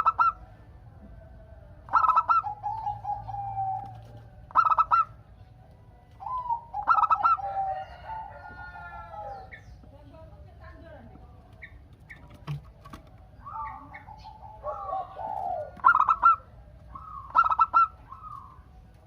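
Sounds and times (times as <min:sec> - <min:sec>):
dove cooing: 0:00.0 - 0:09.6, 0:11.6 - 0:19.0.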